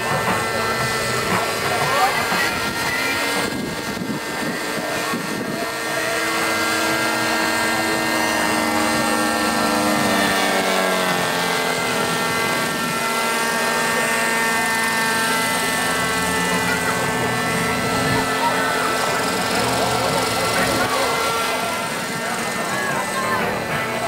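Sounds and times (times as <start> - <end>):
model helicopter rotor drone: 0.0 - 24.0.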